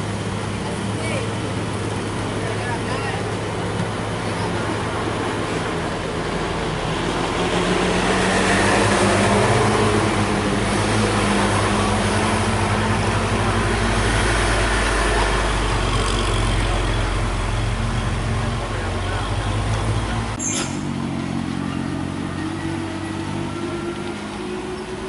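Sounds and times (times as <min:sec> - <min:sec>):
diesel truck engine labouring: 0:00.0 - 0:25.0.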